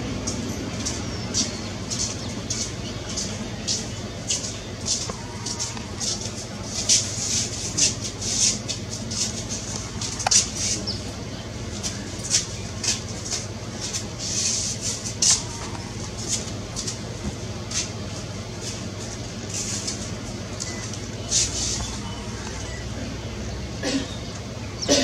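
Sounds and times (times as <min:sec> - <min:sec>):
birds chirping: 0:00.0 - 0:25.0
low steady hum: 0:00.0 - 0:25.0.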